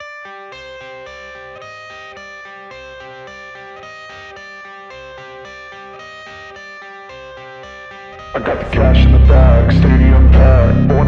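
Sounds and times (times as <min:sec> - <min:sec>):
guitar-led instrumental music: 0:00.2 - 0:11.0.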